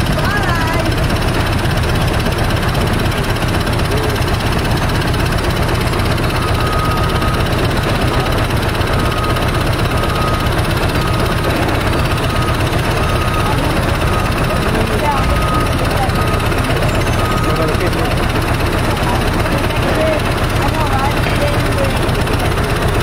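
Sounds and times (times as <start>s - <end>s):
high beeping tone: 0.0s - 23.0s
train carriage rumble: 0.0s - 23.0s.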